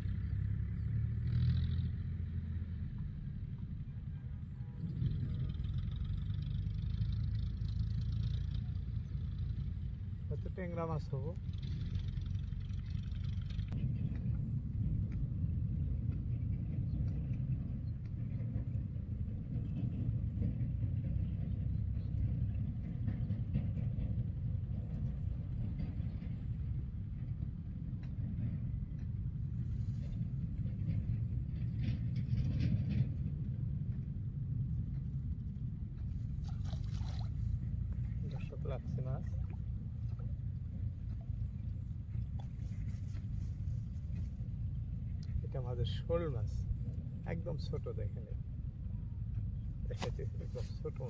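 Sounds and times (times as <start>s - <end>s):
low rumble: 0.0s - 51.0s.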